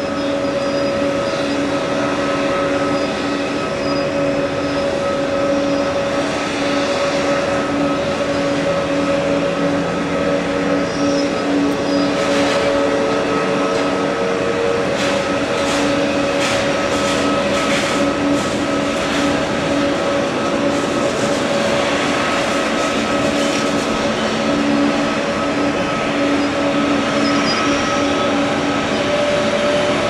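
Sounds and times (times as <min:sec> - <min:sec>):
jet engine hum with whine: 0:00.0 - 0:30.0.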